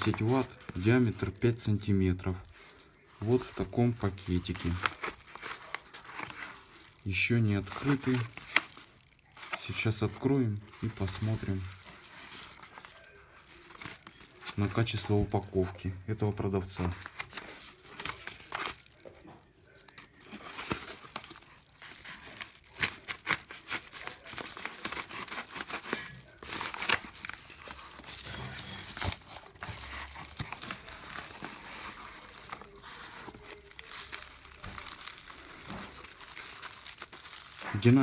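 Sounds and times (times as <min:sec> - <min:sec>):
paper mailer tearing and crumpling: 0:00.0 - 0:15.1, 0:16.6 - 0:19.1, 0:19.9 - 0:38.0
bubble wrap crackling: 0:00.0 - 0:38.0.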